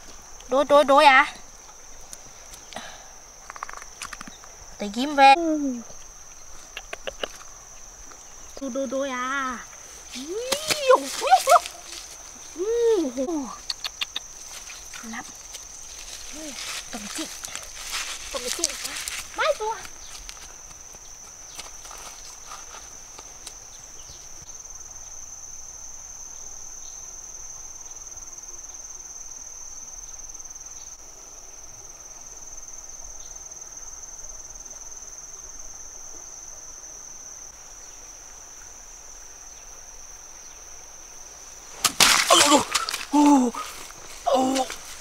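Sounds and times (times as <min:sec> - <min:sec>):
faint outdoor hiss: 0:00.0 - 0:45.0
insects droning: 0:00.0 - 0:45.0.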